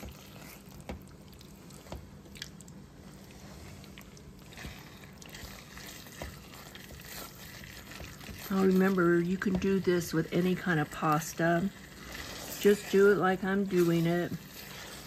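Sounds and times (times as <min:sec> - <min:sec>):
spatula stirring pasta in sauce: 0:00.0 - 0:15.0.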